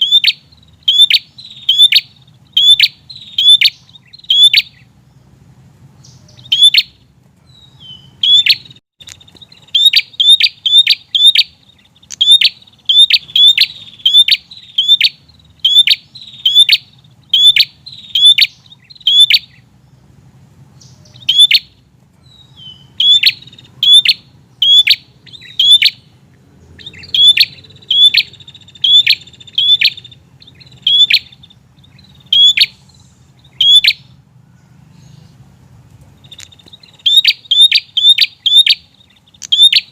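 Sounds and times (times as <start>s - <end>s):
bird sharp chip calls: 0.0s - 4.9s, 6.0s - 19.7s, 20.8s - 35.5s, 36.1s - 39.9s.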